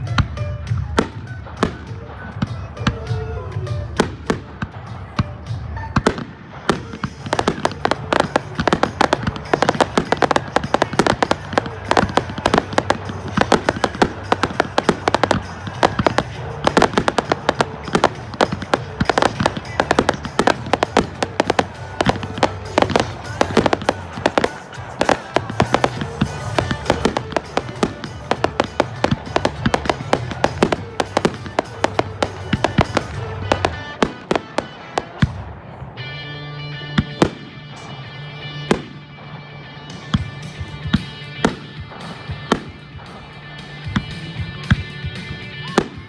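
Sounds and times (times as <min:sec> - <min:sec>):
fireworks bursting: 0:00.0 - 0:46.0
music playing: 0:00.0 - 0:46.0.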